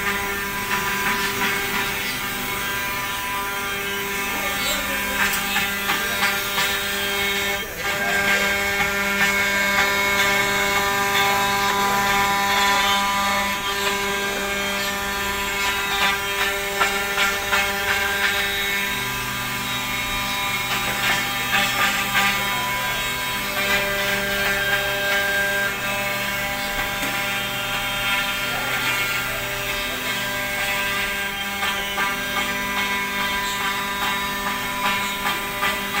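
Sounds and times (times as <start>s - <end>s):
router bit cutting rasp: 0.0s - 36.0s
router spindle whining: 0.0s - 36.0s.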